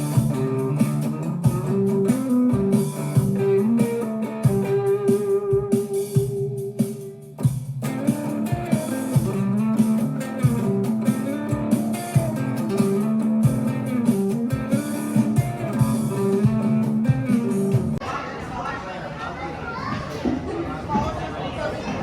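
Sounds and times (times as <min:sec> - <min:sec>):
plucked guitar music with beat: 0:00.0 - 0:18.0.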